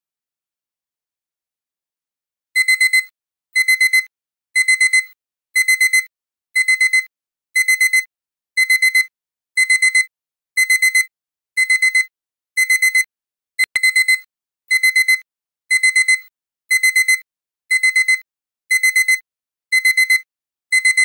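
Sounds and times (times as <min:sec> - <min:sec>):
alarm clock beeping: 0:02.6 - 0:21.0.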